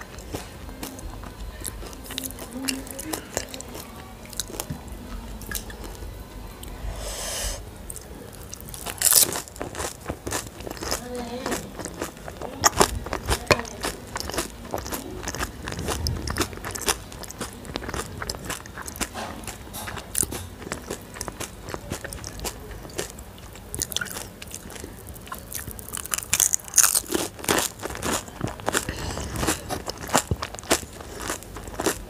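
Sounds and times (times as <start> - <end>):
crunching and chewing crisp shells: 0.0 - 6.8, 7.8 - 32.0.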